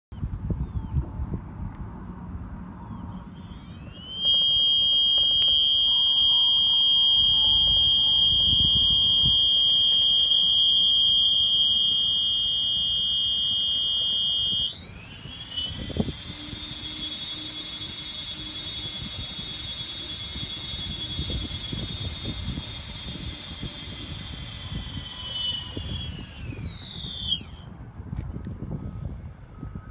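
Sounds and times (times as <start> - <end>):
electric motors whining: 2.8 - 27.8.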